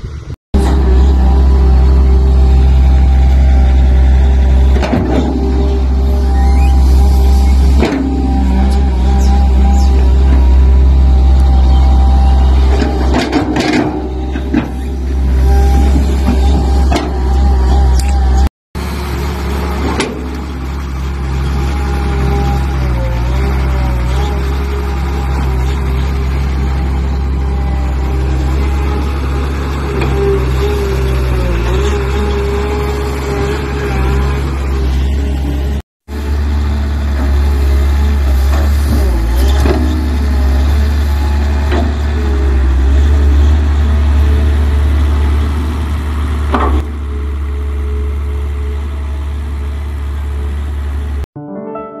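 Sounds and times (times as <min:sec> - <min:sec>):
excavator diesel engine running: 0:00.0 - 0:51.3.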